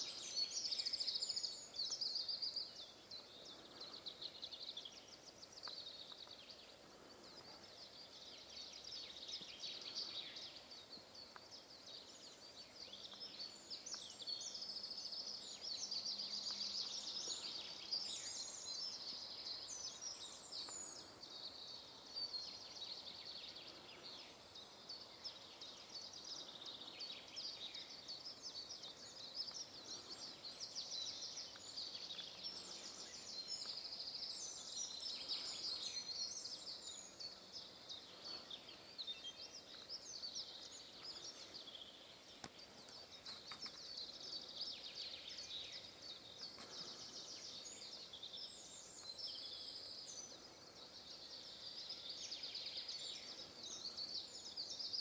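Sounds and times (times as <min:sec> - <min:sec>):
faint outdoor hiss: 0:00.0 - 0:55.0
songbirds chirping and trilling: 0:00.0 - 0:55.0.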